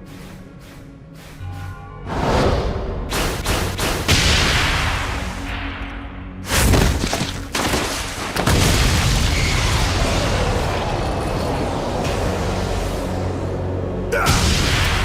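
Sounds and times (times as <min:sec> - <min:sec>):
background music: 0:00.0 - 0:09.2, 0:11.4 - 0:15.0.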